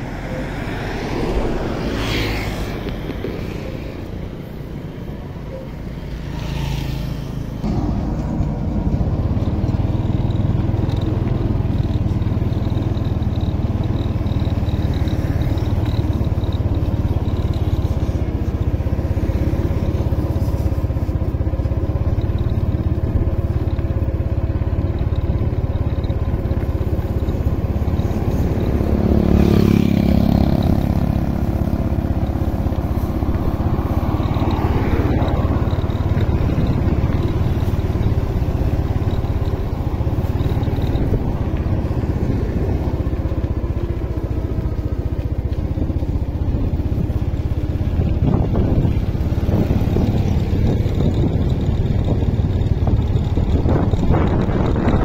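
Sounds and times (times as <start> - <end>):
motorcycle engine running: 0.0 - 55.0
road and wind noise: 0.0 - 55.0.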